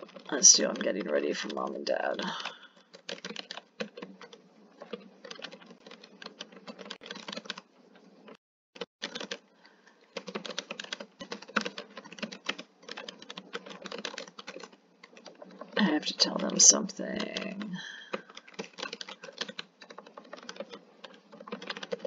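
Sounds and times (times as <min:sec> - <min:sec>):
typing on computer keyboard: 0:00.0 - 0:07.6, 0:08.8 - 0:09.4, 0:10.1 - 0:22.0.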